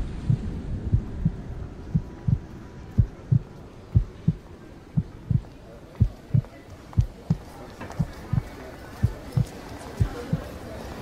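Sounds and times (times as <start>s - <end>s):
heartbeat thumps: 0.0s - 10.5s.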